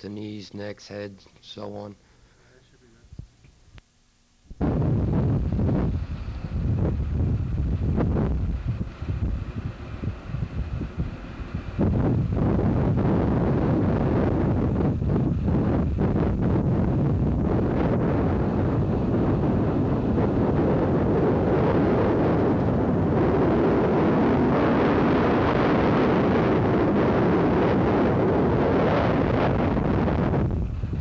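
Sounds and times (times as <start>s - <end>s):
wind buffeting microphone: 4.5s - 31.0s.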